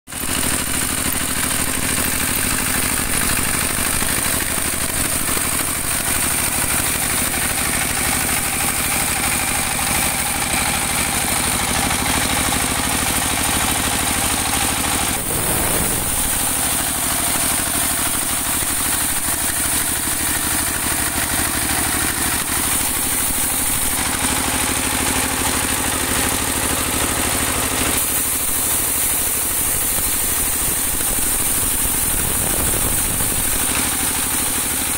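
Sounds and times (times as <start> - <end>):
diesel sawmill engine running: 0.1 - 34.9.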